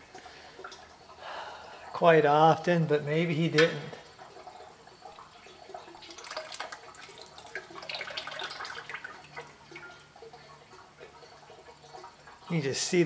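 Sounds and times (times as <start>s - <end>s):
oil trickling and dripping: 0.0s - 13.0s.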